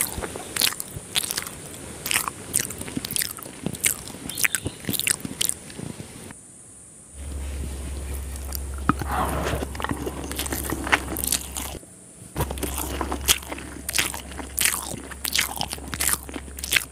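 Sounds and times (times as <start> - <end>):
wet chewing mouth clicks: 0.0 - 6.1, 7.7 - 11.8, 12.4 - 16.9.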